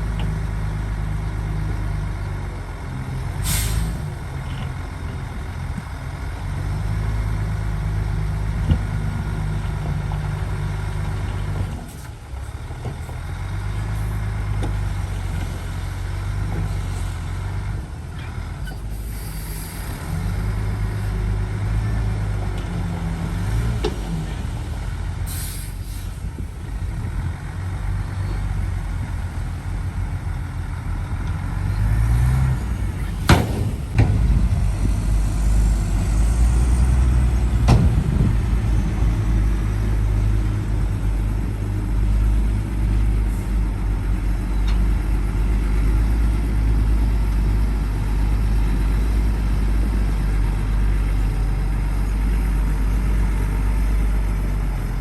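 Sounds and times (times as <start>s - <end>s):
heavy diesel engines working: 0.0s - 55.0s.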